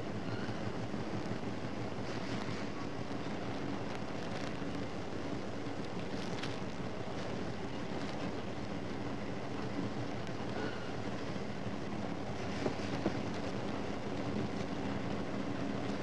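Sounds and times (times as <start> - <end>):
factory machinery drone: 0.0 - 16.0.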